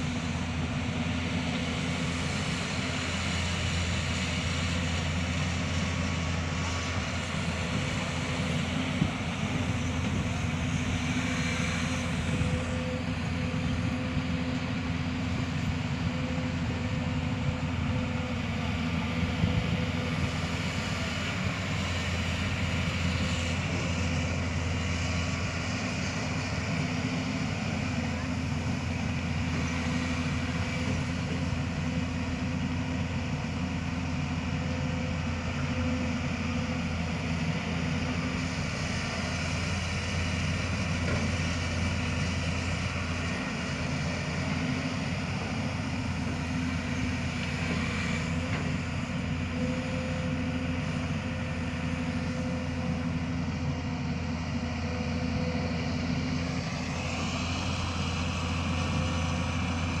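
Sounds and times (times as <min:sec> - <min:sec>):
excavator diesel engine humming: 0:00.0 - 1:00.0.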